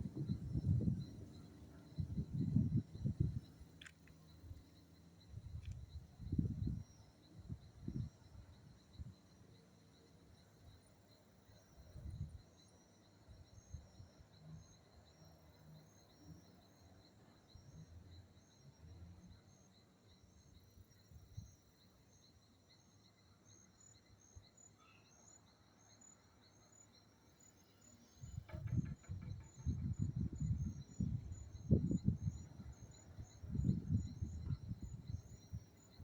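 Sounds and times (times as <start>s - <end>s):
faint insects chirping: 0.0s - 36.0s.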